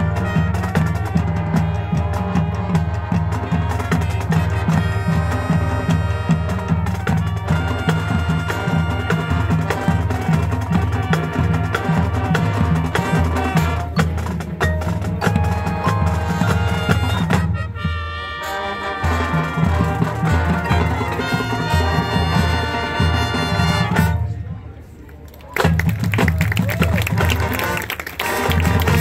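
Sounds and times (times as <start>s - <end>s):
marching band playing: 0.0s - 24.7s, 25.6s - 29.0s.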